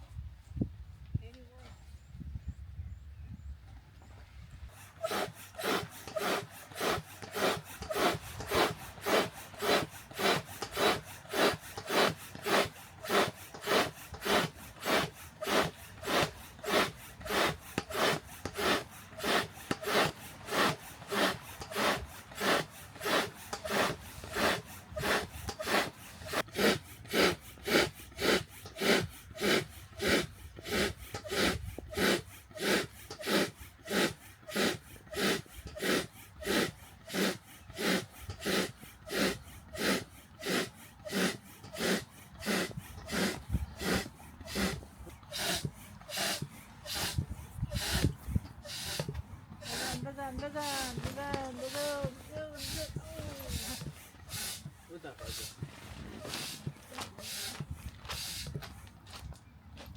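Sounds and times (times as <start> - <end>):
hand saw cutting wood: 4.7 - 59.3.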